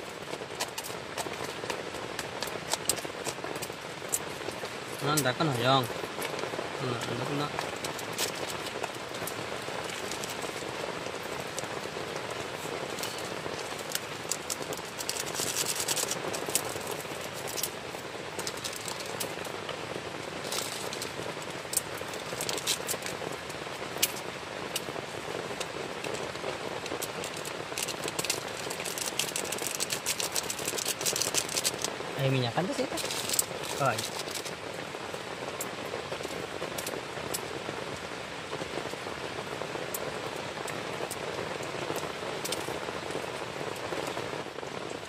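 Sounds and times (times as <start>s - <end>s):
heavy rain on a tent: 0.0s - 45.0s.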